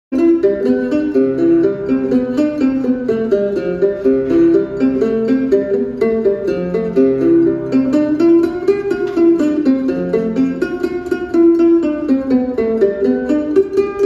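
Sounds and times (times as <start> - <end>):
guitar plucked melody: 0.1 - 14.0.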